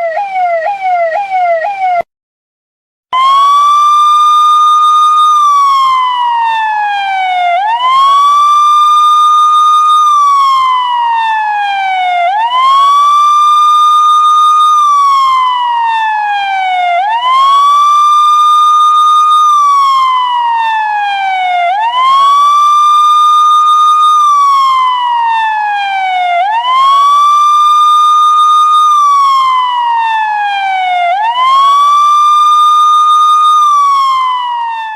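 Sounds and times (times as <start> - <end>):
police siren wailing: 0.0 - 2.1, 3.2 - 34.9.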